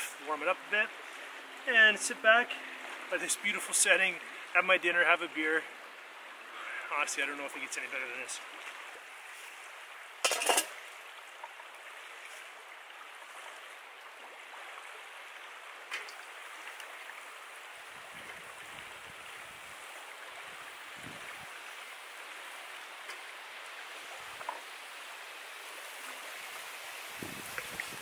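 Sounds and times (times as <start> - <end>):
river water running: 0.0 - 28.0.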